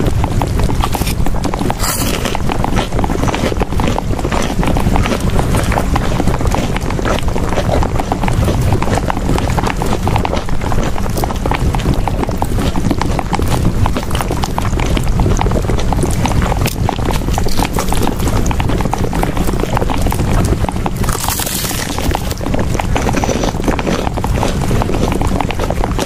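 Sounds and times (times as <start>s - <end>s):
hooves clip-clopping: 0.0s - 26.0s.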